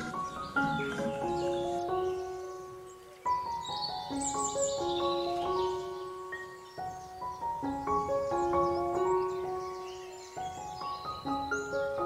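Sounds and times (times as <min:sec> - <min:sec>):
slow soothing background music: 0:00.0 - 0:12.0.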